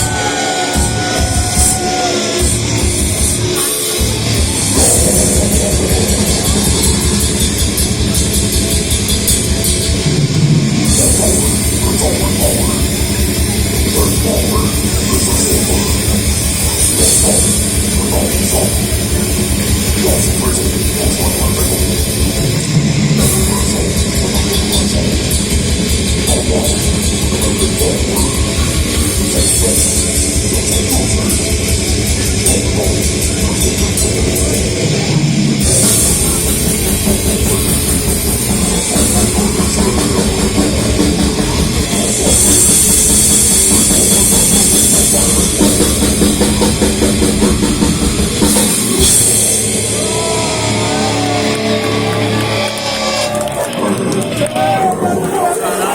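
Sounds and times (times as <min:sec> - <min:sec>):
fast driving drums: 0:00.0 - 0:55.9
heavy metal band playing live: 0:00.0 - 0:55.9.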